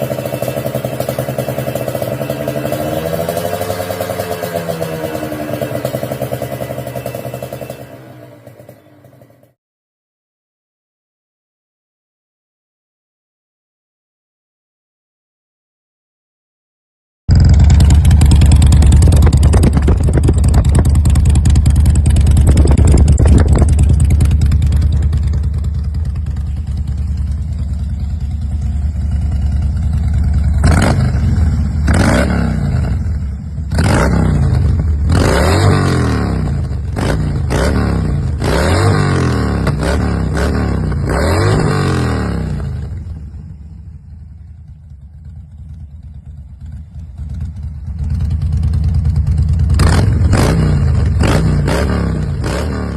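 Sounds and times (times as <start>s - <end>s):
motorcycle engine revving: 0.0s - 9.6s, 17.3s - 52.9s.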